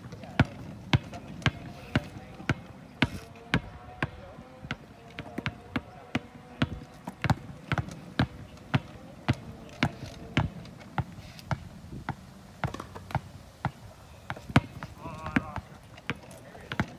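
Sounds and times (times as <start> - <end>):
basketballs bouncing on asphalt: 0.0 - 16.9.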